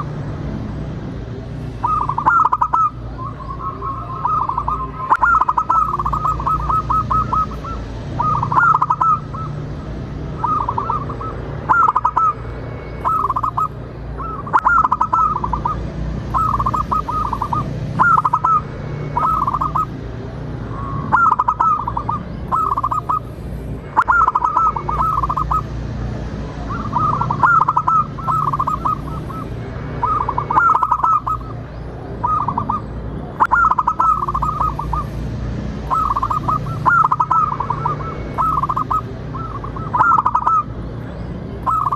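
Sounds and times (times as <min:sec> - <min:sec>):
dove cooing: 0:01.8 - 0:12.4, 0:13.0 - 0:19.9, 0:20.7 - 0:23.3, 0:23.9 - 0:25.7, 0:26.5 - 0:35.1, 0:35.8 - 0:40.8, 0:41.6 - 0:41.9.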